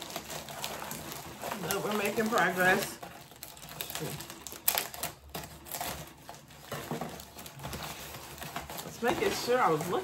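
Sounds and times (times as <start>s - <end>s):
shopping bag crinkling: 0.0s - 10.0s.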